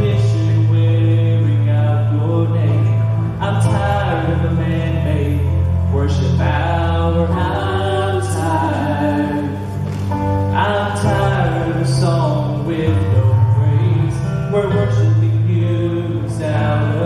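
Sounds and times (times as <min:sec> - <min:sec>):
gospel singing: 0:00.0 - 0:17.0.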